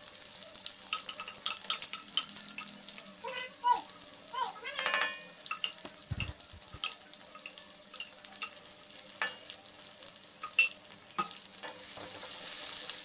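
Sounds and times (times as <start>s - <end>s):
hot oil sizzling in a wok: 0.0s - 13.0s.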